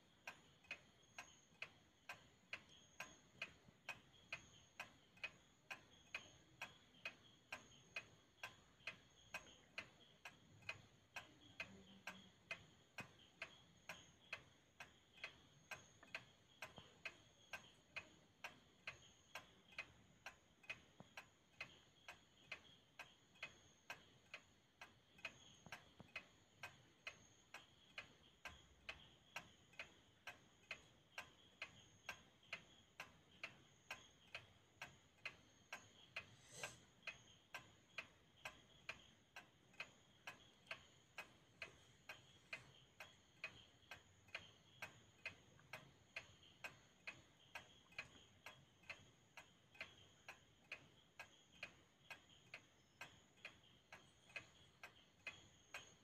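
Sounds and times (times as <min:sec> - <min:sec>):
wall clock ticking: 0:00.0 - 0:56.0.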